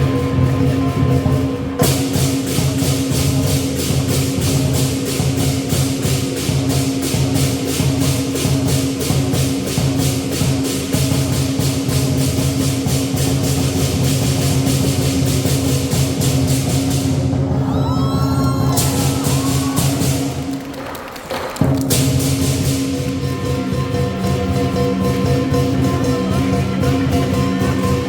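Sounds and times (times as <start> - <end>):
cymbals clashing: 0.0 - 20.6, 21.9 - 28.0
big drum beating: 0.0 - 28.0.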